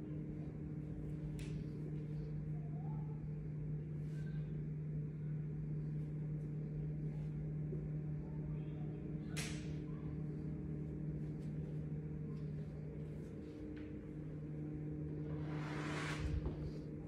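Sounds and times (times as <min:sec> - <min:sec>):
steady low hum with tones: 0:00.0 - 0:17.0.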